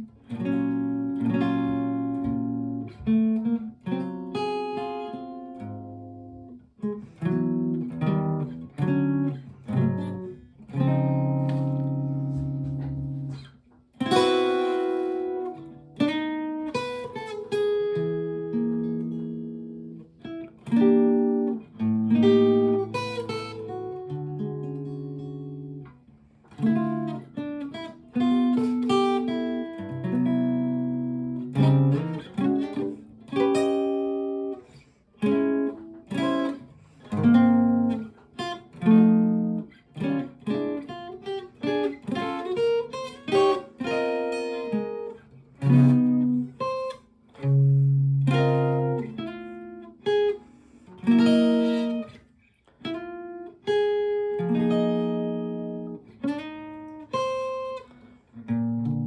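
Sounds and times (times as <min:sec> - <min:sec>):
solo acoustic guitar: 0:00.0 - 0:59.0.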